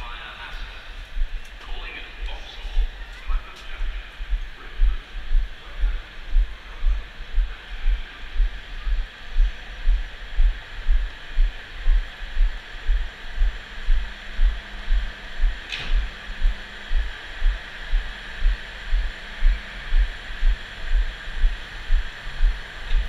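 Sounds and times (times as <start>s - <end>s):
low rhythmic thumping: 0.0s - 23.0s.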